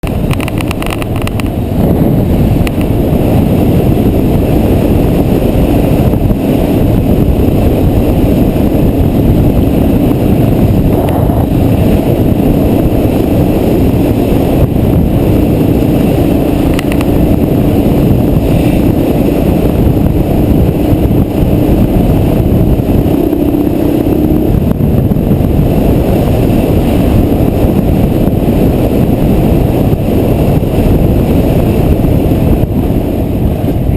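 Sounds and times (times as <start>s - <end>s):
motorcycle engine running under load: 0.0s - 33.9s.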